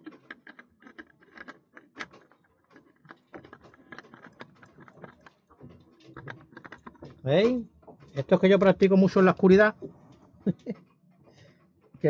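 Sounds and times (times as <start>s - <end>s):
oil filter clicking and scraping: 0.0s - 12.0s.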